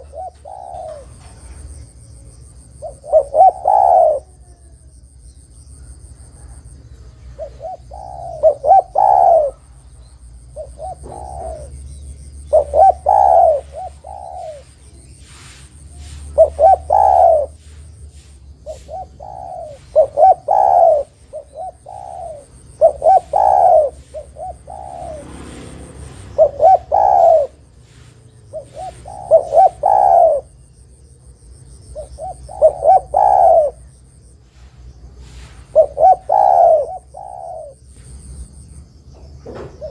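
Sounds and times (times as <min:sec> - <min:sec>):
dove cooing: 0:00.0 - 0:04.9, 0:05.8 - 0:38.5, 0:39.2 - 0:39.9.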